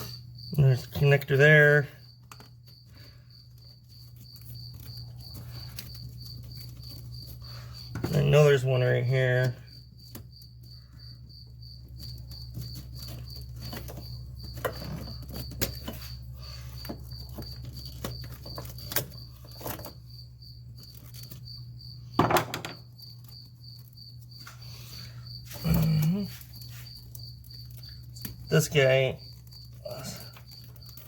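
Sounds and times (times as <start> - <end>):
cricket chirping: 0.0 - 31.0.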